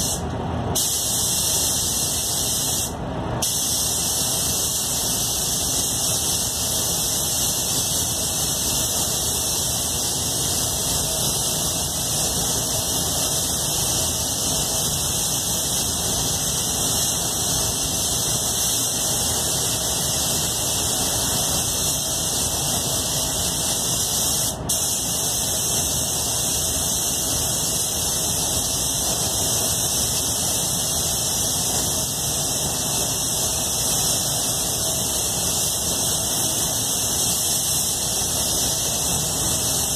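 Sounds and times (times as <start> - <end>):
spray gun hissing: 0.0 - 0.2, 0.8 - 39.9.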